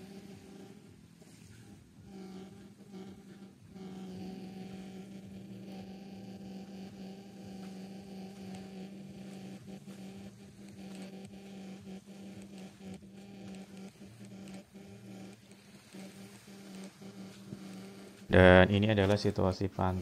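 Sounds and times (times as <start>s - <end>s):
faint clicks and ticks: 0.0s - 20.0s
steady low machine hum: 0.0s - 20.0s.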